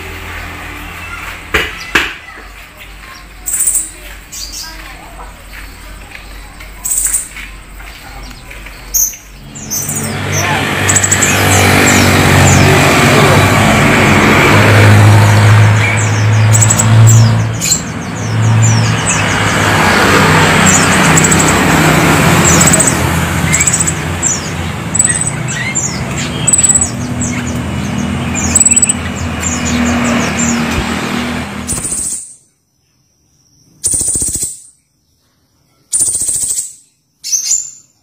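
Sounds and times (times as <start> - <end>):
traffic noise: 0.0 - 32.5
birds chirping: 0.0 - 38.0.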